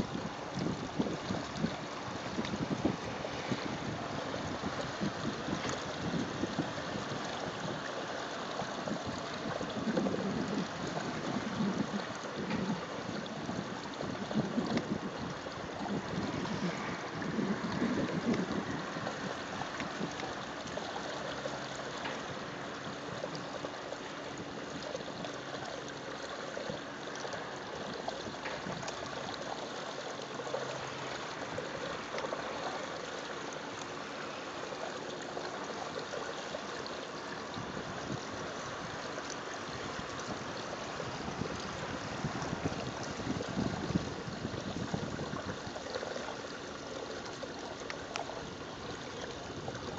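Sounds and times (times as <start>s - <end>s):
water rushing along boat hull: 0.0s - 49.9s.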